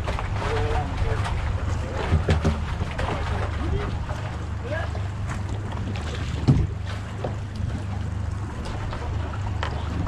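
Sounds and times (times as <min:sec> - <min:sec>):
outboard motor idling: 0:00.0 - 0:10.0
water and wind noise: 0:00.0 - 0:10.0.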